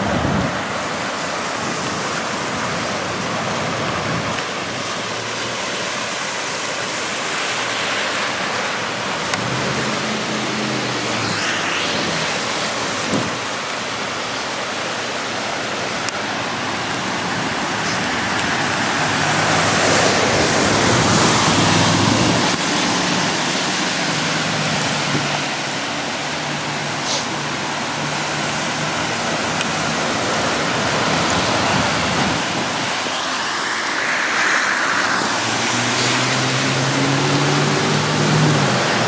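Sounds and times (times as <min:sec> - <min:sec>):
vehicle splashing through water: 0:00.0 - 0:39.0
tyres hissing through water: 0:00.7 - 0:39.0.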